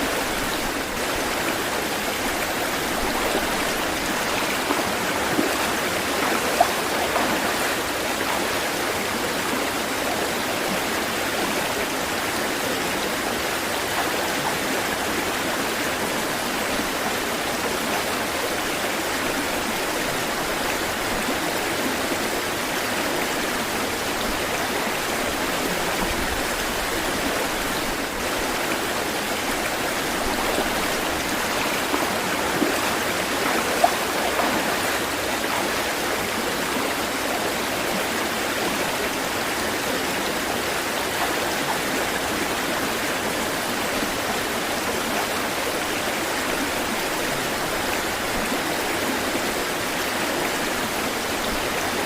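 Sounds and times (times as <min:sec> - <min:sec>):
water splashes: 0:00.0 - 0:12.2, 0:12.8 - 0:44.4
water rushing: 0:00.0 - 0:52.0.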